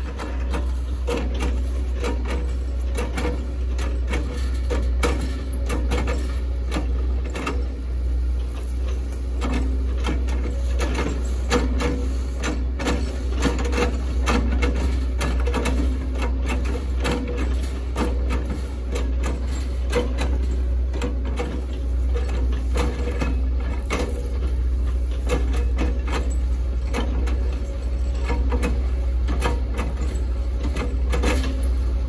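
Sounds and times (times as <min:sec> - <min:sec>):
excavator running: 0:00.0 - 0:32.0.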